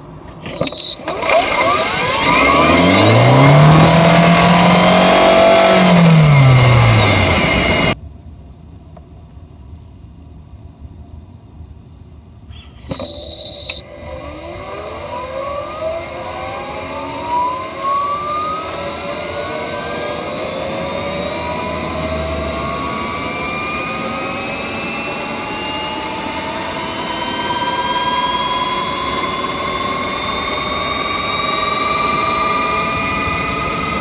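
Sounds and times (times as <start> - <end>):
electric motor whining: 0.4 - 8.0, 12.9 - 34.0
high-pitched inverter tone: 0.4 - 8.0, 12.8 - 34.0.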